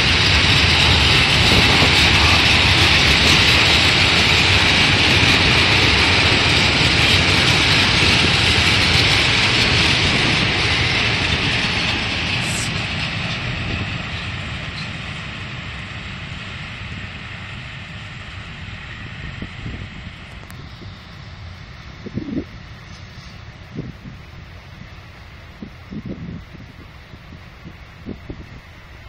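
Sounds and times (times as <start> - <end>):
freight wagons rolling on rails: 0.0 - 25.5.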